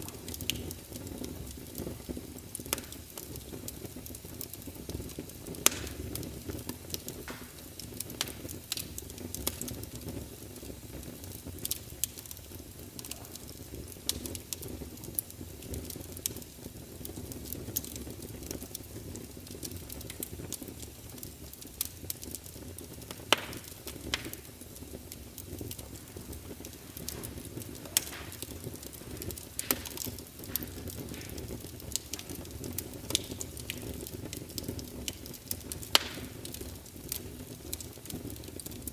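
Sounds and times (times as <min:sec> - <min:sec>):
low rush of flame: 0:00.0 - 0:38.9
sharp pops from fire: 0:00.0 - 0:38.9
wood fire crackling: 0:00.0 - 0:38.9.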